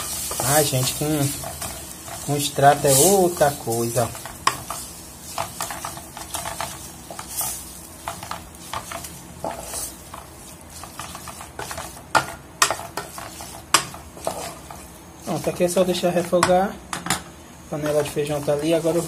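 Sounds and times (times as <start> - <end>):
wooden spoon scraping a pan: 0.0 - 16.4, 17.8 - 19.0.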